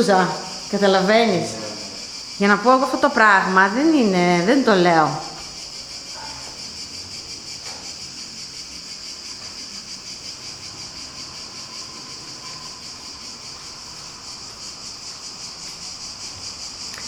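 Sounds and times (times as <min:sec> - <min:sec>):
high-pitched shimmering hiss: 0:00.0 - 0:17.0.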